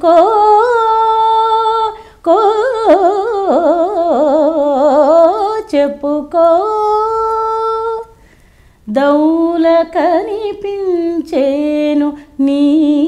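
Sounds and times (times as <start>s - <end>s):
woman singing unaccompanied: 0.0s - 8.1s, 8.9s - 13.0s.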